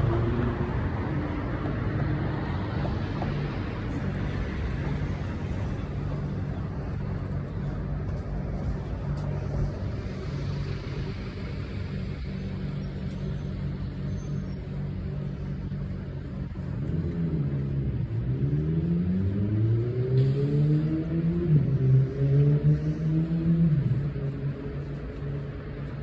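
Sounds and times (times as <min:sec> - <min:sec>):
engine running and revving: 0:00.0 - 0:26.0.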